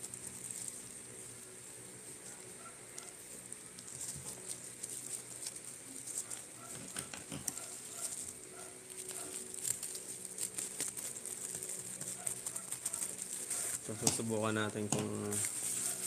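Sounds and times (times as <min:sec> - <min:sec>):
bubble wrap crinkling and crackling: 0:00.0 - 0:16.0.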